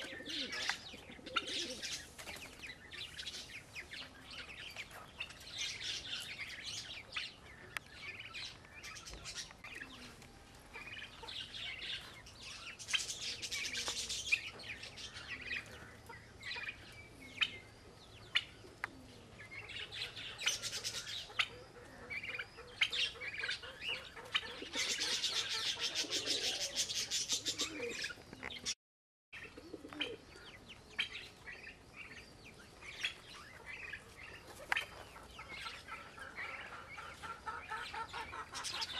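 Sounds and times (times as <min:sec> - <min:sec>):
birds chirping and twittering: 0:00.0 - 0:28.8, 0:29.4 - 0:38.9.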